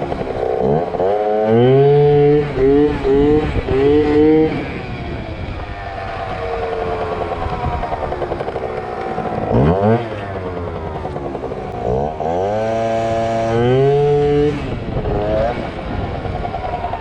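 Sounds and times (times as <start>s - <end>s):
scooter engine revving: 0.0s - 17.0s.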